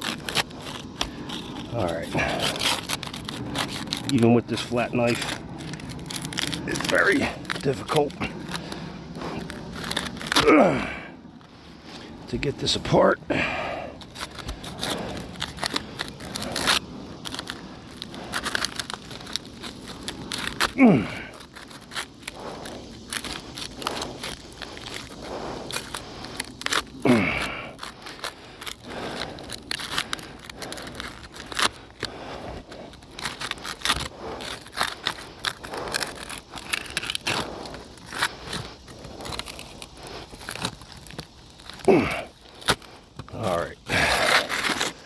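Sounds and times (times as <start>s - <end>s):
knife scraping between roof shingles: 0.0s - 45.0s.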